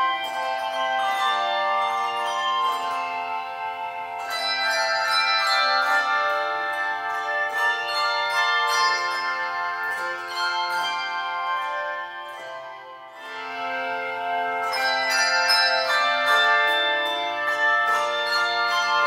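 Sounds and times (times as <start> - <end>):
handbells ringing in chords: 0.0 - 19.0.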